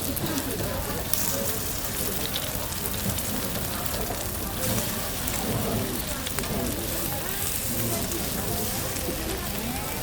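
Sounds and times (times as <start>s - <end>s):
food deep-frying in oil: 0.0s - 10.0s
small crackles of frying: 0.0s - 10.0s.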